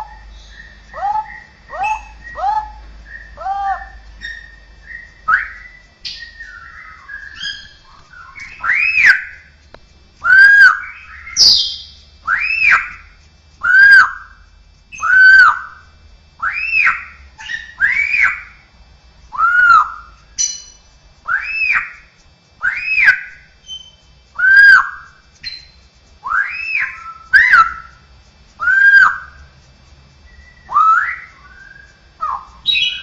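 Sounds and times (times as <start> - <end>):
bird singing whistles: 0.0 - 9.5, 10.2 - 13.0, 13.6 - 18.6, 19.3 - 22.0, 22.6 - 29.5, 30.2 - 33.0.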